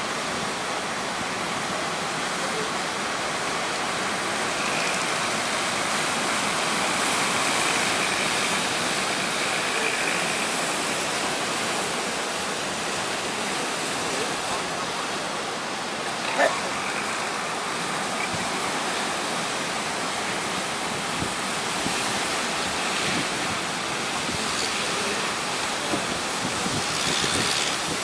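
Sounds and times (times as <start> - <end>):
heavy surf breaking: 0.0 - 28.0.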